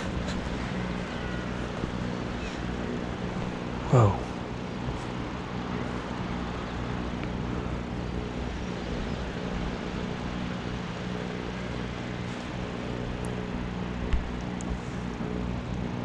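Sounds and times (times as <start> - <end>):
distant motor droning: 0.0 - 16.0.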